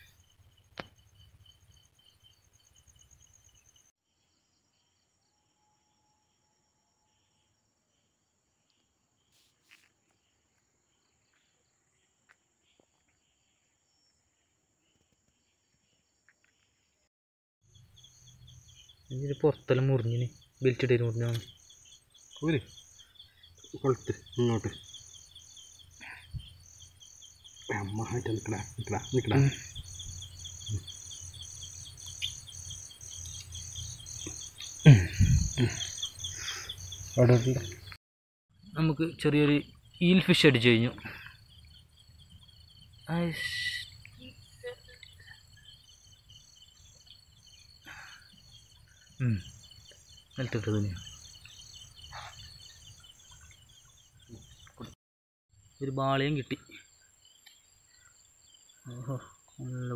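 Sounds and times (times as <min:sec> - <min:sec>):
insects chirring: 0:00.0 - 0:17.1, 0:17.7 - 0:55.0, 0:55.6 - 0:59.9.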